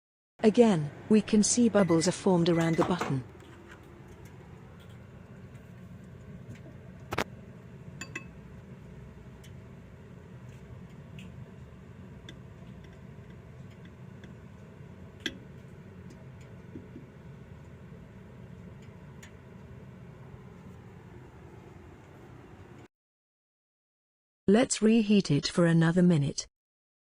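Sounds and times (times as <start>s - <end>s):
low steady hum: 0.4s - 22.9s.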